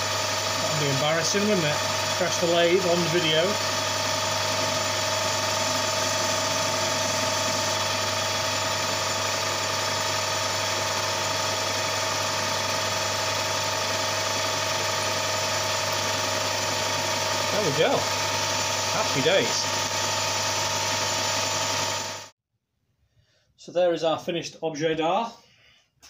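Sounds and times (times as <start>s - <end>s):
lathe motor humming: 0.0s - 22.3s.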